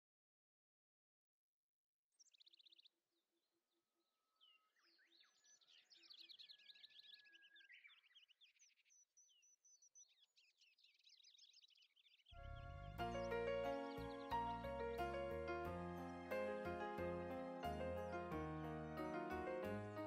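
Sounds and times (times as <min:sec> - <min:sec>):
small birds chirping and trilling: 0:02.1 - 0:03.3, 0:04.2 - 0:20.0.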